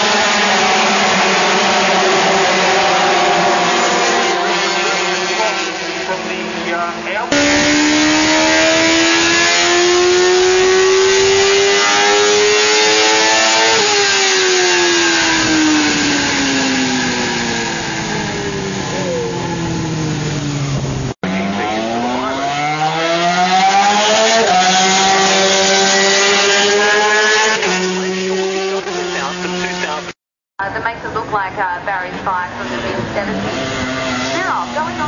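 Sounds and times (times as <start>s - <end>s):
racing motorcycle engines revving: 0.0s - 35.0s.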